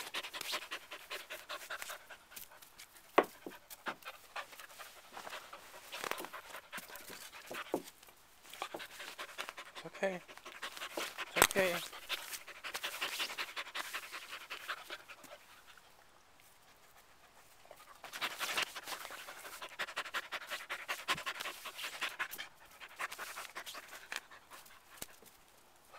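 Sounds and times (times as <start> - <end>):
dog panting: 0.0 - 16.0, 16.6 - 25.9.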